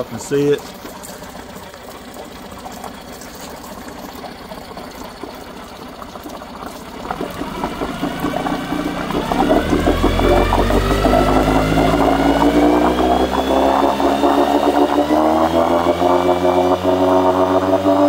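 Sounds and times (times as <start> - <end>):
outboard motor revving: 0.0 - 18.0.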